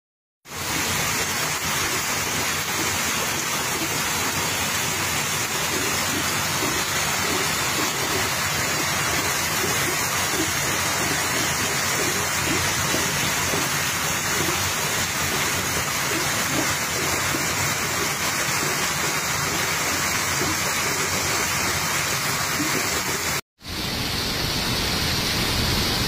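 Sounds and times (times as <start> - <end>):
floodwater rushing down street: 0.5 - 26.0
heavy rain: 0.5 - 26.0.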